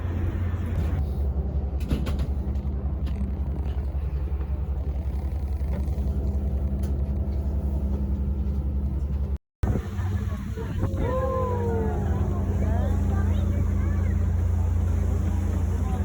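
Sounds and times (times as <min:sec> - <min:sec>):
boat engines droning: 0:00.0 - 0:16.0.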